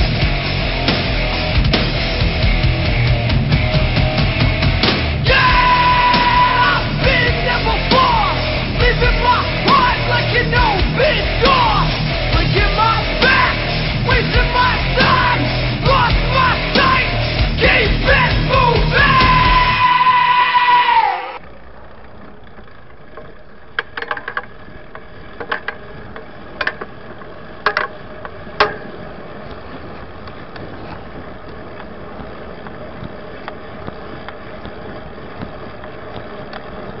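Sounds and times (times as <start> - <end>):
city street traffic: 0.0 - 37.0.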